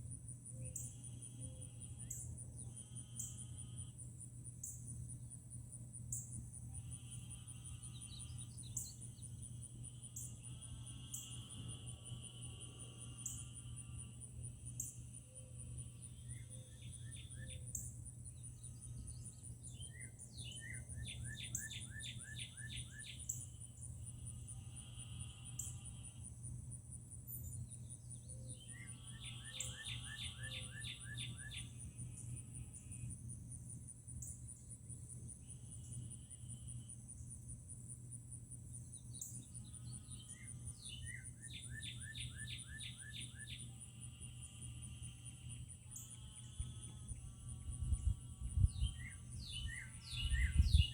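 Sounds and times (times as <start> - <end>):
pulsing insect trill: 0.0 - 50.9
songbird singing: 0.0 - 50.9.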